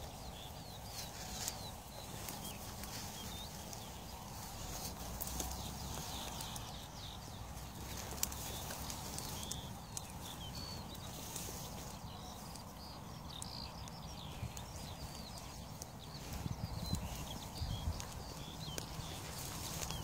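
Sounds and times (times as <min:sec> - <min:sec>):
bird chirps: 0:00.0 - 0:20.0
dry grass rustling: 0:00.0 - 0:20.0
wind rumble on microphone: 0:00.0 - 0:20.0.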